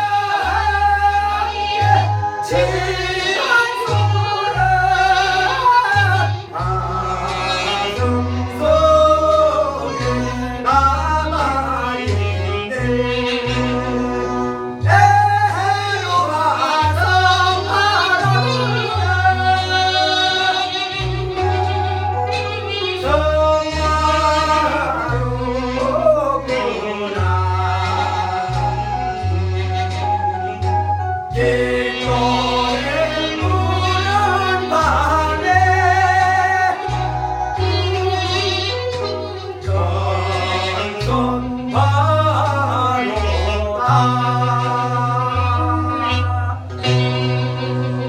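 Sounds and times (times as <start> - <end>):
bass line accompaniment: 0.0 - 48.0
person singing with vibrato: 0.0 - 48.0.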